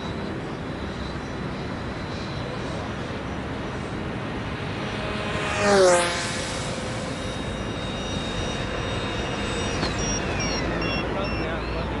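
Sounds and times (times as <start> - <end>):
aircraft flying past: 0.0 - 12.0.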